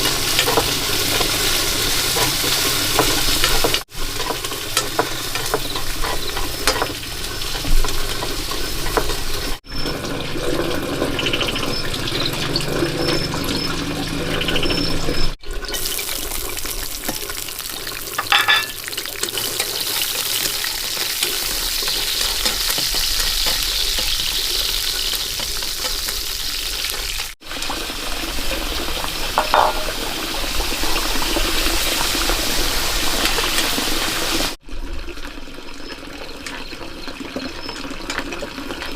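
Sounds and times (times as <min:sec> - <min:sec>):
food frying: 0:00.0 - 0:38.9
running water: 0:00.0 - 0:38.9.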